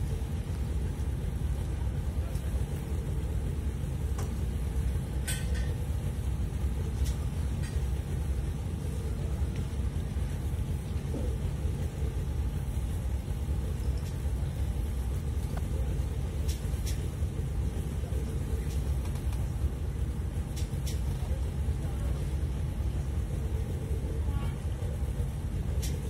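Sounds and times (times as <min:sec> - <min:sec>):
diesel engines idling: 0:00.0 - 0:26.0.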